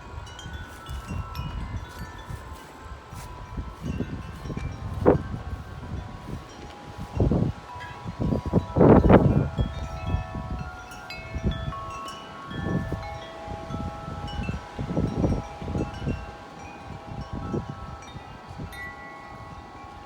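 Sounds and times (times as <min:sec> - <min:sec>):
wind chimes ringing: 0:00.0 - 0:20.0
wind gusts buffeting microphone: 0:00.0 - 0:20.0.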